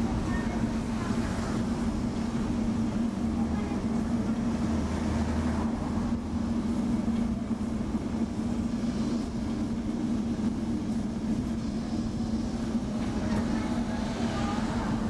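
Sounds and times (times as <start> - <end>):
tram hum: 0.0 - 15.0
wheels rumbling on rails: 0.0 - 15.0.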